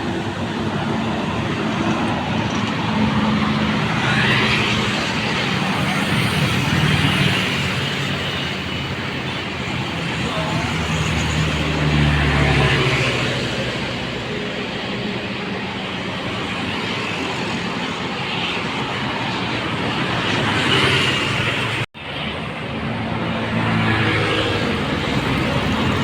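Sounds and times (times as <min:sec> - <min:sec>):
road traffic: 0:00.0 - 0:26.0
vehicles passing close by: 0:00.0 - 0:26.0.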